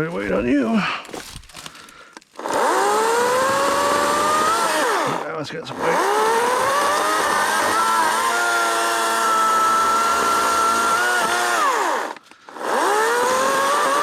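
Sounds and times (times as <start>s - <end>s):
electric chainsaw motor whining: 2.3s - 14.0s.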